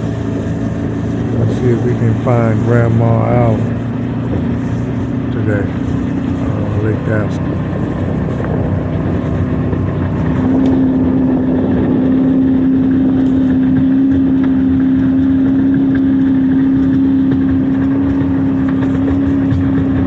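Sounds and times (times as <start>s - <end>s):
outboard motor humming: 0.0s - 20.0s
steady rushing noise: 0.0s - 20.0s.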